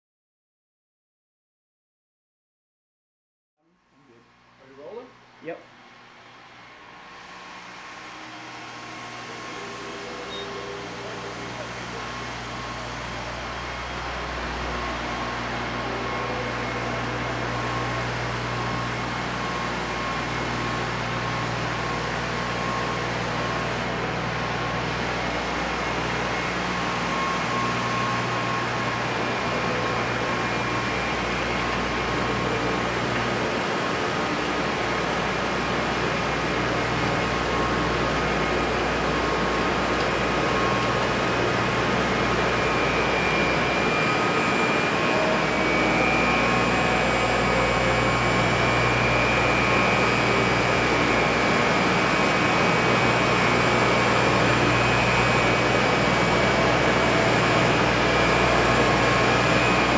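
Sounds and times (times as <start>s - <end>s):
industrial machinery hum: 3.7s - 59.9s.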